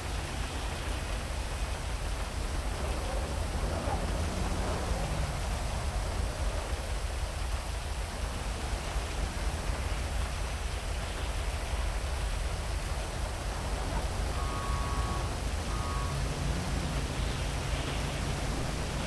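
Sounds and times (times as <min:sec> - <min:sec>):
constant low rumble: 0:00.0 - 0:19.0
heavy rain falling: 0:00.0 - 0:19.0.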